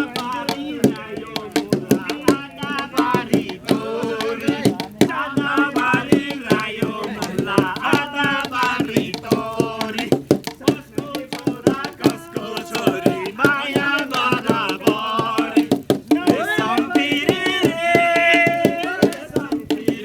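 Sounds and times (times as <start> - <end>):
folk singing: 0.0 - 20.0
sharp percussive strikes: 0.0 - 20.0.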